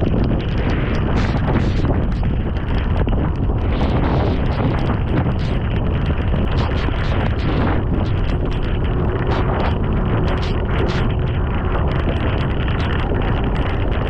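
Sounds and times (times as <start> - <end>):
heavy rain pouring: 0.0 - 14.0
wind buffeting microphone: 0.0 - 14.0.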